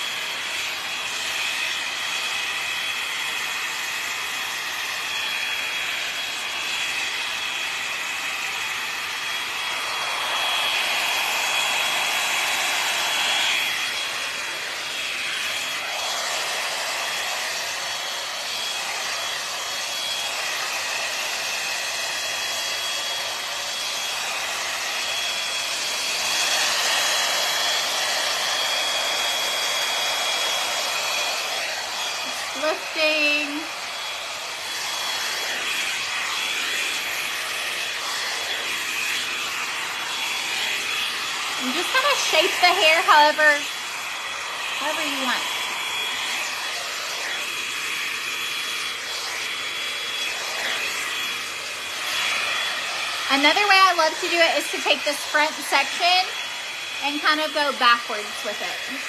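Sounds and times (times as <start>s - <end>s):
hot-air brush blowing with whine: 0.0s - 59.0s.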